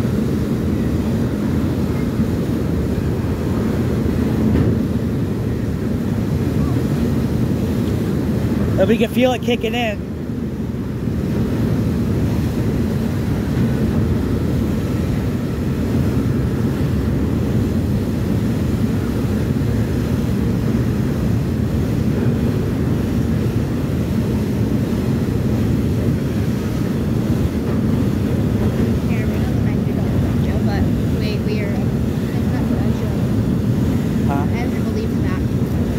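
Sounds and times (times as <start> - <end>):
ferry engine drone: 0.0 - 35.9
propeller wash churning: 0.0 - 35.9.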